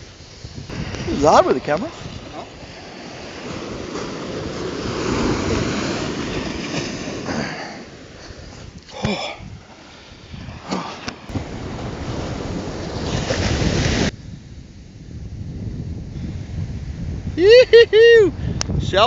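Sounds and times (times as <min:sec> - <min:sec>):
surf washing on beach: 0:00.0 - 0:19.0
wind on microphone: 0:00.0 - 0:19.0.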